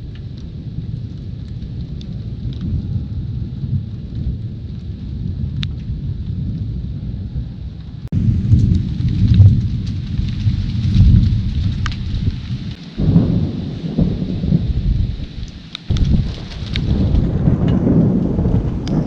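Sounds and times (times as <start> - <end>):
raindrop ticks: 0.0 - 6.8, 7.8 - 19.0
loud thunder peal: 0.0 - 19.0
rain: 0.0 - 19.0
thunder rumbling: 0.0 - 19.0.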